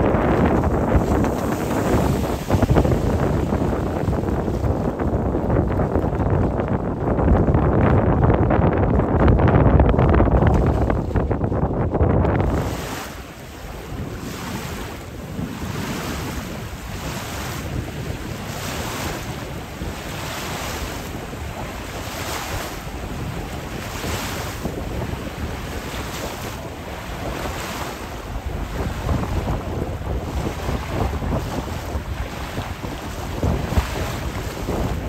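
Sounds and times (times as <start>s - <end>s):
rushing splashing water: 0.0s - 35.0s
wind buffeting microphone: 0.0s - 35.0s.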